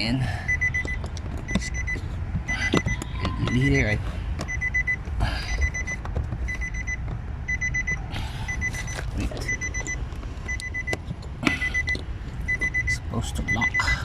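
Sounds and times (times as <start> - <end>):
car warning chime beeping: 0.0 - 14.0.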